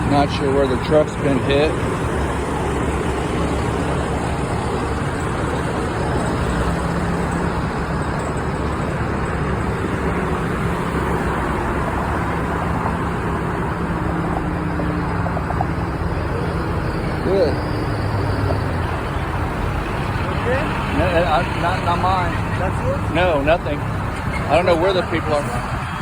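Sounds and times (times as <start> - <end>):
passing road traffic: 0.0 - 26.0.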